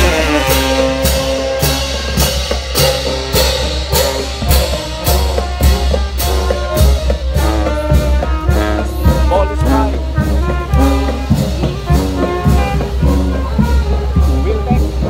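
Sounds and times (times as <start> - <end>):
bass drums and cymbals beat: 0.0 - 15.0
marching band playing: 0.0 - 15.0
saxophones and brass: 0.0 - 15.0.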